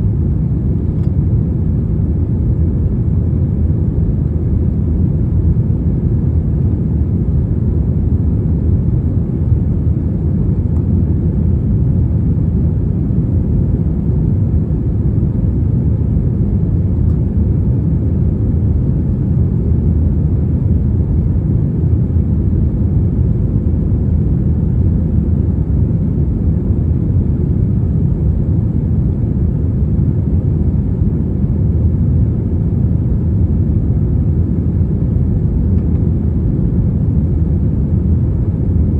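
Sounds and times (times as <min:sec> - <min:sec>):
airliner low rumble: 0:00.0 - 0:38.9.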